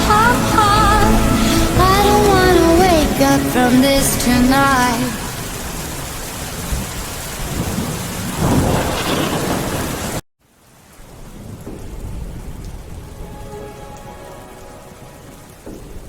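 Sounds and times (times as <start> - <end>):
thunder rumbling: 0.0 - 10.2, 11.0 - 16.0
heavy rain: 0.0 - 16.0.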